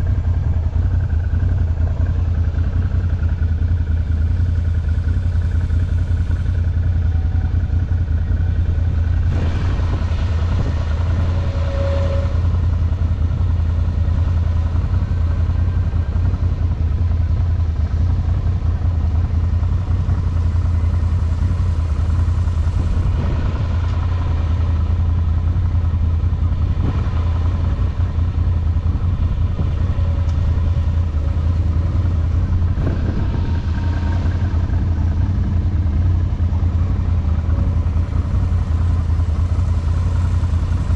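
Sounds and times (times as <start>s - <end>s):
atv engine droning: 0.0s - 40.9s.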